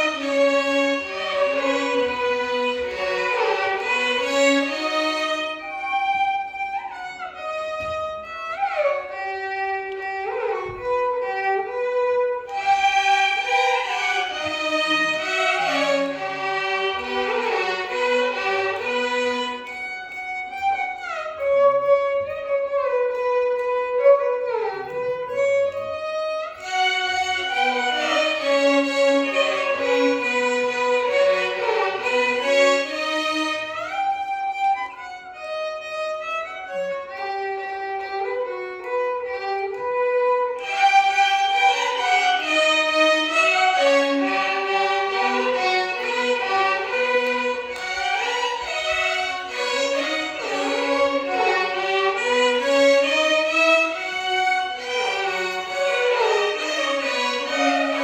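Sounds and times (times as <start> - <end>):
violin ensemble playing: 0.0 - 58.0.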